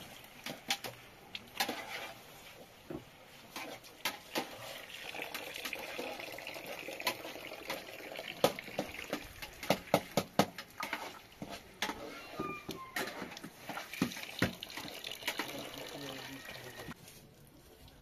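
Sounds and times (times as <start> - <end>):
ladle stirring in pot: 0.0 - 15.9.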